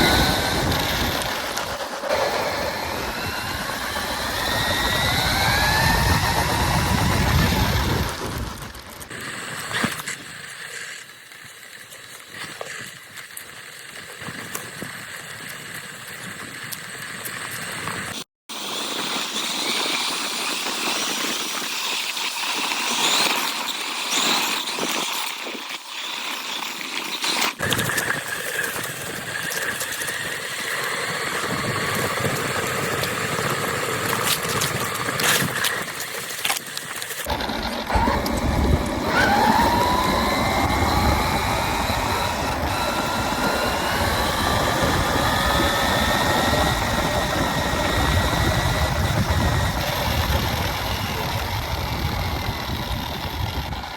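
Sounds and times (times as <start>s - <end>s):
rc car electric motor whine: 0.0s - 53.9s.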